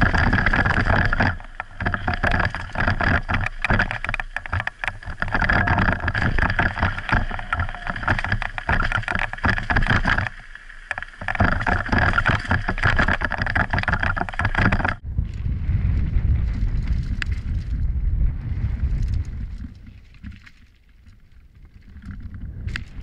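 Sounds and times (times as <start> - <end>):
bike rattling over rough trail: 0.0 - 23.0.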